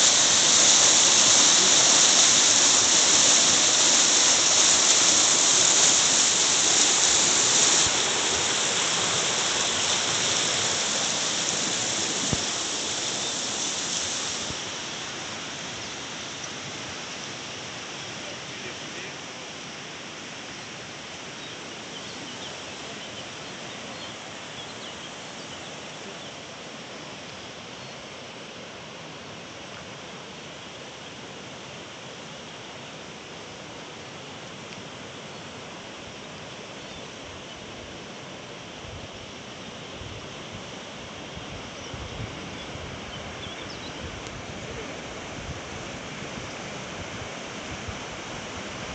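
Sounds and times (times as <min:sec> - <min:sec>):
river rushing over rocks: 0:00.0 - 0:48.9.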